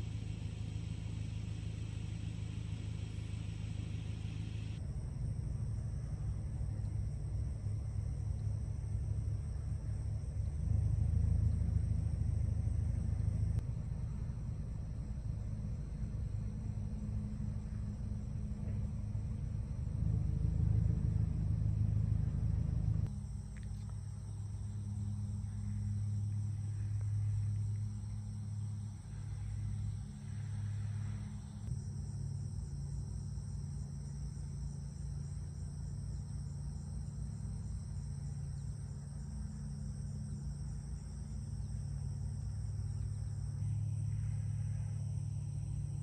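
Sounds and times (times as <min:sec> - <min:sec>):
insects chorus: 0:00.0 - 0:46.0
low steady hum: 0:00.0 - 0:46.0.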